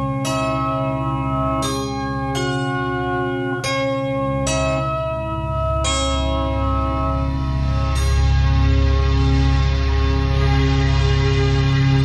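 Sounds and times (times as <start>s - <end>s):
bell-like notes: 0.0s - 12.0s
low drone: 0.0s - 12.0s.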